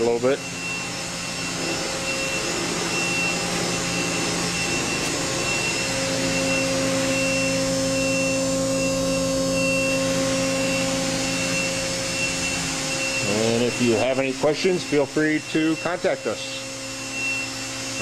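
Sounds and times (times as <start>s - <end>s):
low whine: 0.0s - 18.0s
machine hum: 0.0s - 18.0s
pulsing high tone: 0.0s - 18.0s.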